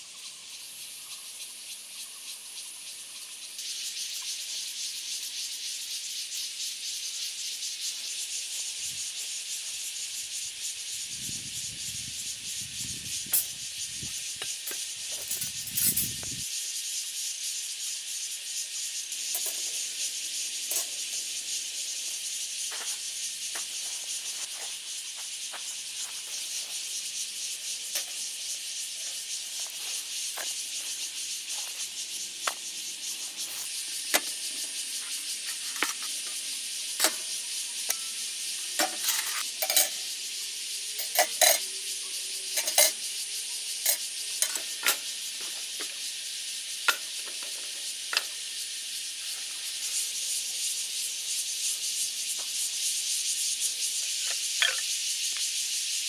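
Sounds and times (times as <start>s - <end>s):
night insects hissing: 0.0s - 56.0s.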